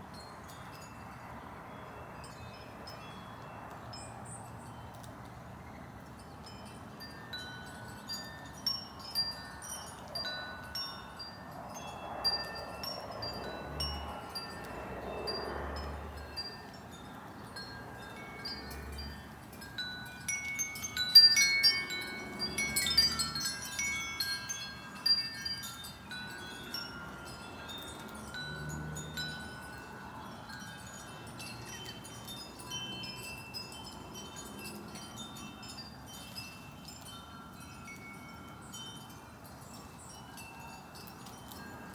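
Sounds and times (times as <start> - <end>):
wind chimes ringing: 0.1 - 5.0, 5.6 - 41.9.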